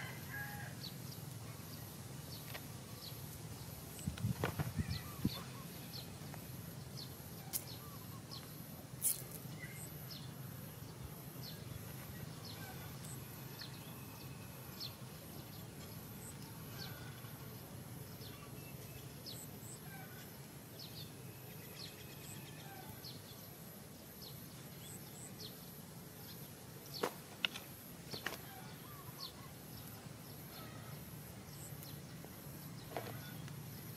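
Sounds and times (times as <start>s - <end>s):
small birds chirping: 0.8s - 33.9s.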